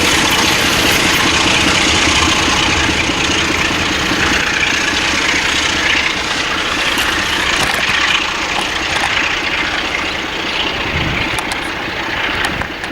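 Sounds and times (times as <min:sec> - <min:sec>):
freight train rumbling past: 0:00.0 - 0:12.9.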